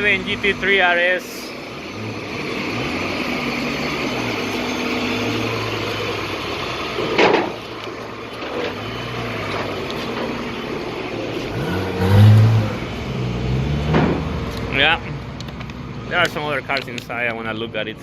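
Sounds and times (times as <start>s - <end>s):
car engines running: 0.0s - 18.0s.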